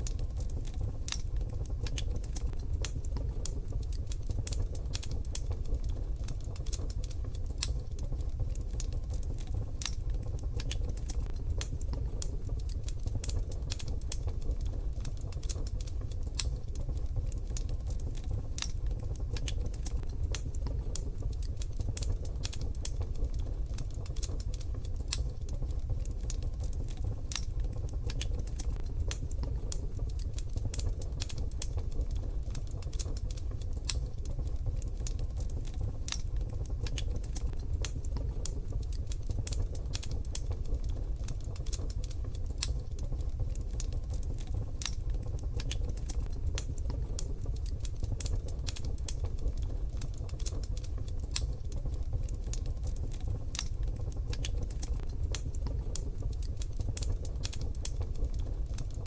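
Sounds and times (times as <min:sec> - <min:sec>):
wood fire crackling in a stove: 0:00.0 - 0:59.0.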